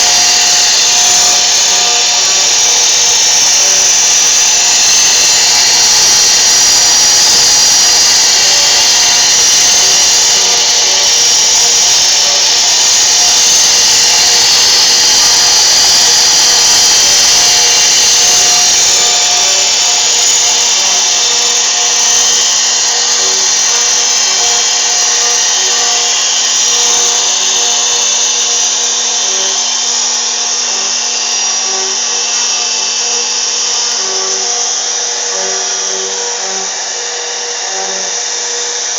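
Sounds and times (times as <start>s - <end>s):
cnc router carving wood: 0.0s - 38.9s.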